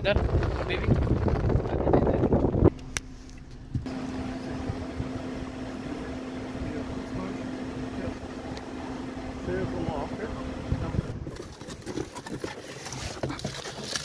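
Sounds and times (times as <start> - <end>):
car idling: 0.7 - 13.5.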